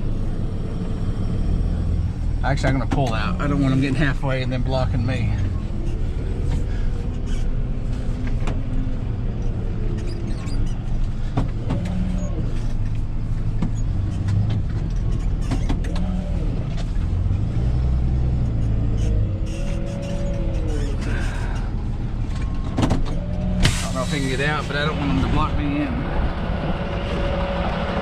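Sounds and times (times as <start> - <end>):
tow truck engine running: 0.0 - 28.0.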